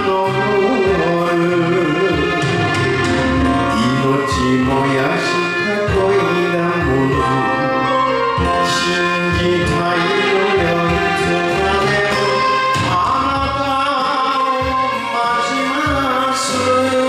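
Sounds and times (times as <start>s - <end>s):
song with backing band: 0.0s - 17.0s.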